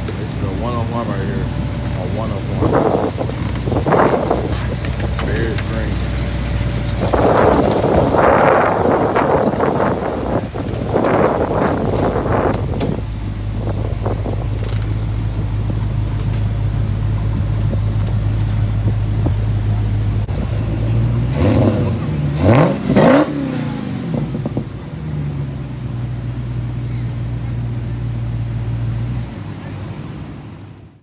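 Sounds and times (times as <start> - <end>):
muscle car engine idling and revving: 0.0 - 31.0.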